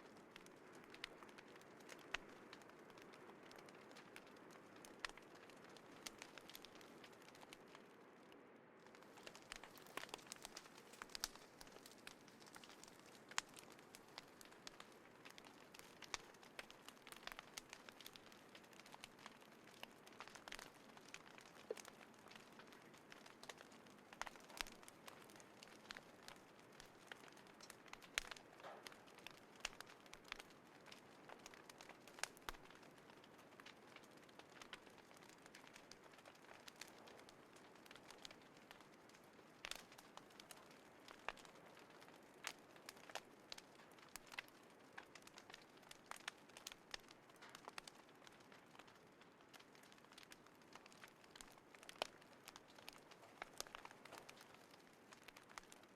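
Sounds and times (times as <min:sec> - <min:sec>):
faint steady hiss: 0:00.0 - 0:55.9
wood fire crackling: 0:00.0 - 0:55.9
sharp fire pops: 0:08.9 - 0:55.8.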